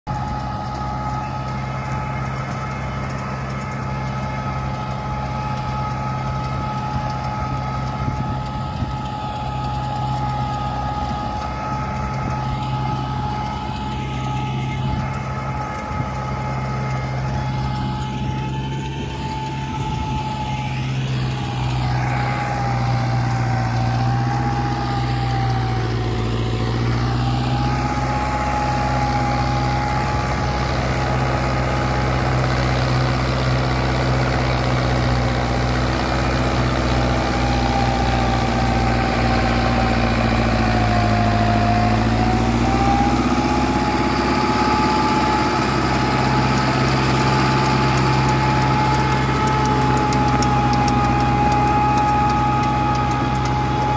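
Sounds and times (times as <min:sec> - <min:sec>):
tractor diesel engine running: 0:00.0 - 0:53.9
steady high whine: 0:00.1 - 0:53.9.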